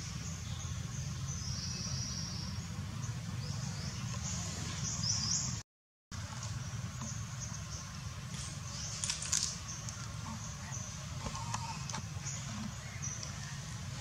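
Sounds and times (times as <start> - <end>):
small birds chirping: 0.0 - 5.6, 6.2 - 14.0.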